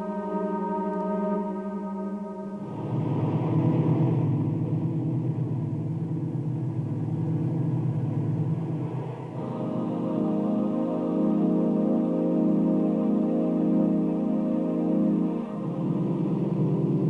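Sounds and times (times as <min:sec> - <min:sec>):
sustained musical tones: 0:00.0 - 0:17.0
low rumbling drone: 0:02.6 - 0:17.0.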